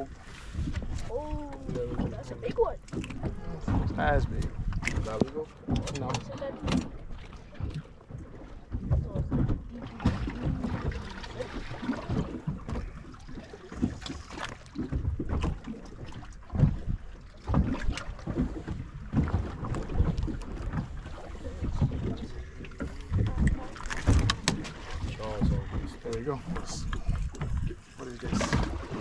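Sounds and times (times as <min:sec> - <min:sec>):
water slapping boat hull: 0:00.0 - 0:29.0.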